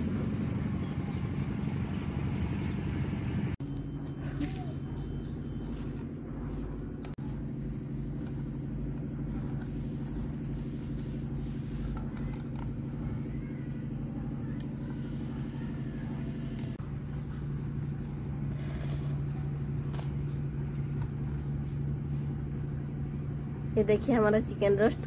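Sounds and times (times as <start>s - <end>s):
machinery droning: 0.0s - 25.0s.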